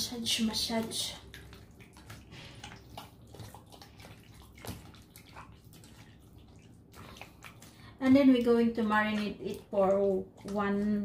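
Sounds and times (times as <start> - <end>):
wet squelches of kneading meat: 0.0 - 11.0.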